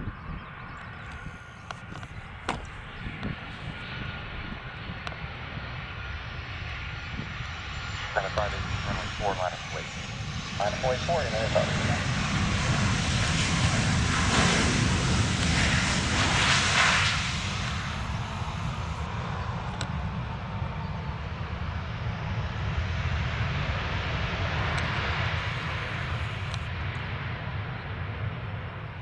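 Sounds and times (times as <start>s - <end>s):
jet engines on landing roll: 0.0s - 29.0s.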